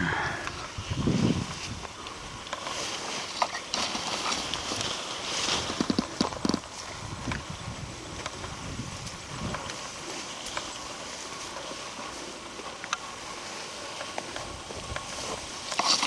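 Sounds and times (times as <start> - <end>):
footsteps through undergrowth: 0.0 - 16.0.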